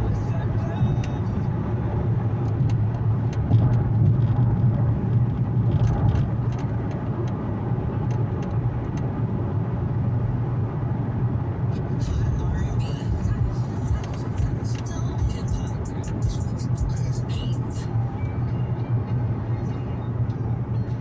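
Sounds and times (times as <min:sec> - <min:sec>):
car engine and road hum: 0:00.0 - 0:21.0.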